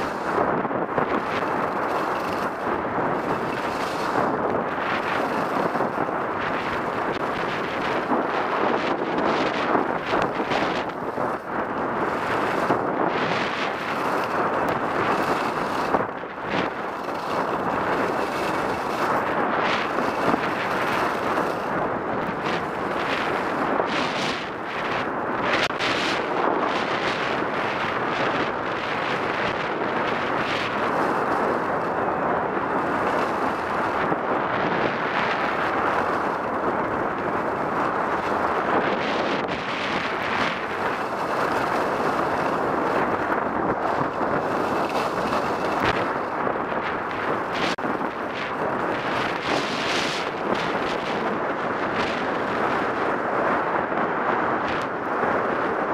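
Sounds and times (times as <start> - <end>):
skis scraping on snow: 0.0 - 55.9
wind on microphone: 0.0 - 55.9.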